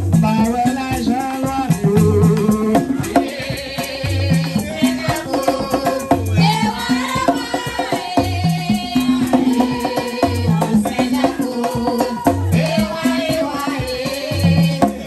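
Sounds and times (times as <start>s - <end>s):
hand drums and rattles: 0.0s - 15.0s.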